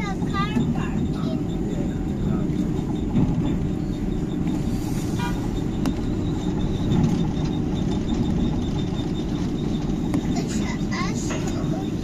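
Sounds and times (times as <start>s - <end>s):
monorail cabin rumble: 0.0s - 12.0s.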